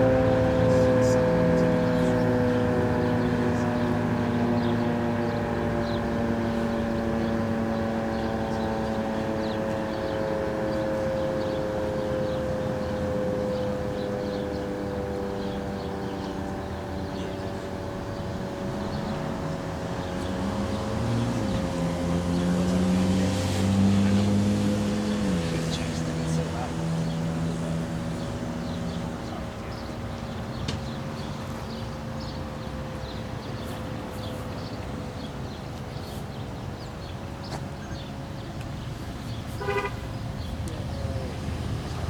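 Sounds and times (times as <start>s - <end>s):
low drone: 0.0s - 36.1s
dual-tone warning siren: 0.0s - 37.4s.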